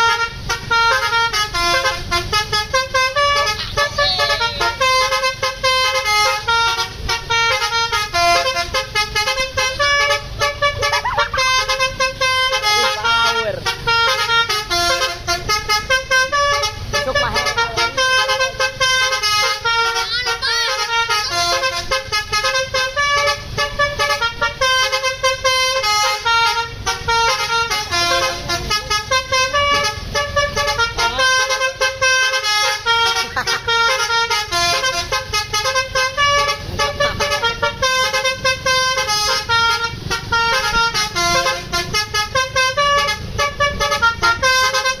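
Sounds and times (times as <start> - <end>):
bus horn playing a fast tune: 0.0 - 45.0.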